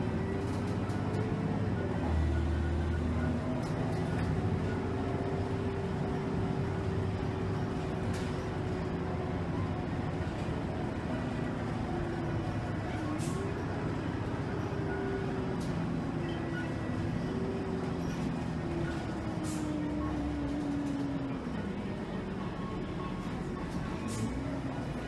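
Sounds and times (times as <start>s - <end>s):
bus engine running: 0.0s - 25.0s.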